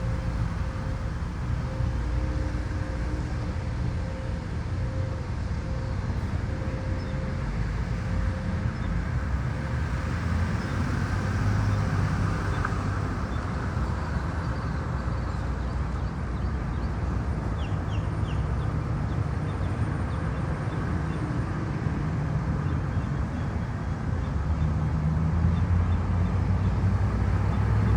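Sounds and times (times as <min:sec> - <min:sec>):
low rumbling outdoor noise: 0:00.0 - 0:27.9.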